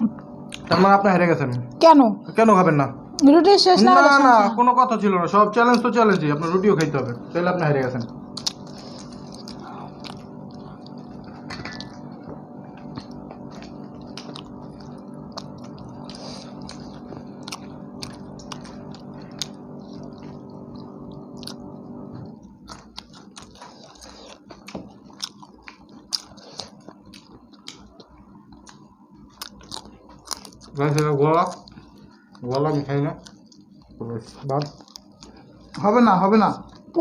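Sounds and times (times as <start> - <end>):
people chewing and crunching: 0.0 - 4.2, 5.2 - 37.0
multi-tone hum: 0.0 - 37.0.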